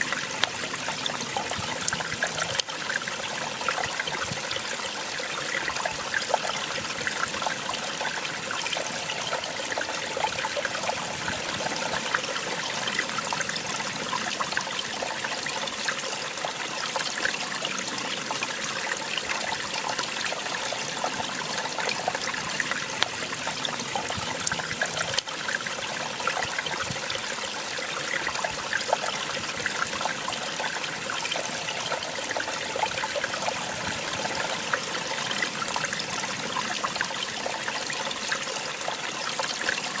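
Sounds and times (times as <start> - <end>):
small waterfall splashing: 0.0 - 40.0.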